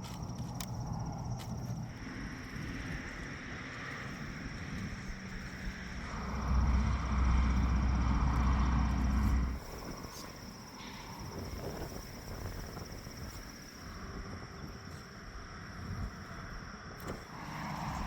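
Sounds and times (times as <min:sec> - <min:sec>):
low rumble: 0:00.0 - 0:14.8
crickets chirring: 0:00.0 - 0:18.0.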